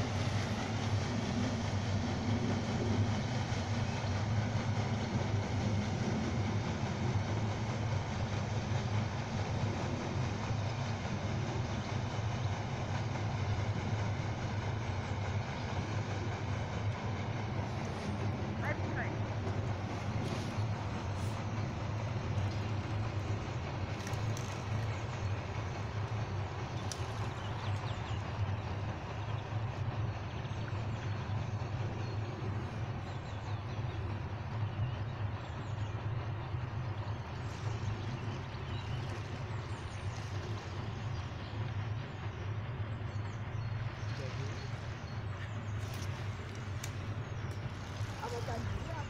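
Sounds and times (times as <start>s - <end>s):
low rumble: 0.0s - 49.0s.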